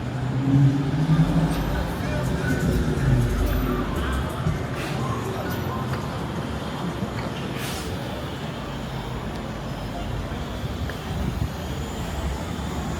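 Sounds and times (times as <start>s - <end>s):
rumble of passing vehicles: 0.0s - 12.9s.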